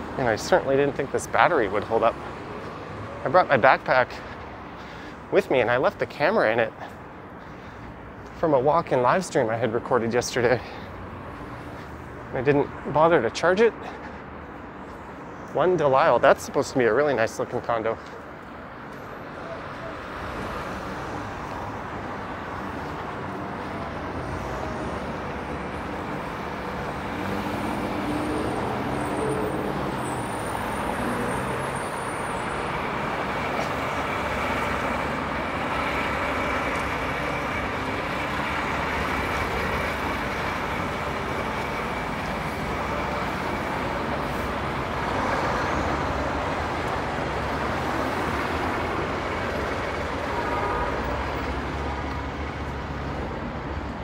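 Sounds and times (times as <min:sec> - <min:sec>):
buses and cars passing: 0:00.0 - 0:54.0.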